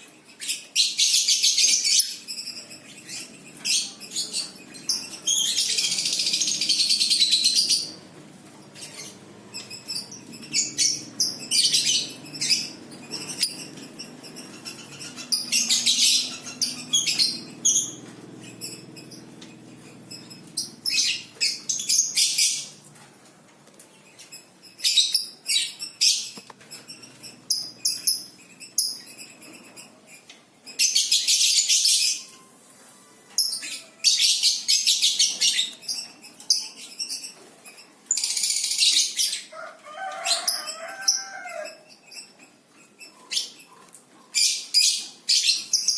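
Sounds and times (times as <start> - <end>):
songbird chirping and trilling: 0.0 - 23.1, 23.8 - 45.9.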